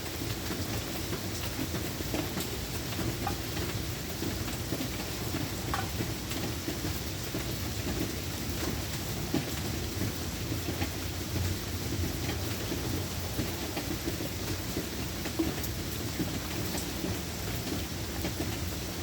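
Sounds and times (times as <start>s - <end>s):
raindrops ticking and plinking: 0.0s - 19.0s
steady rain falling: 0.0s - 19.0s.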